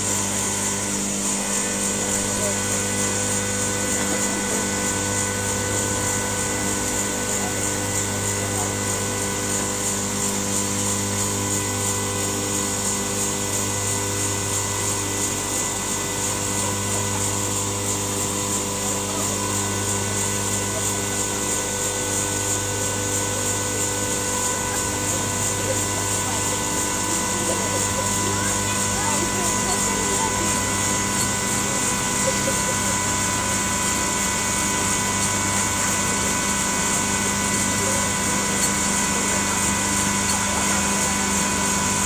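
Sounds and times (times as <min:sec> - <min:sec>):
hoisting machine drone: 0:00.0 - 0:42.0.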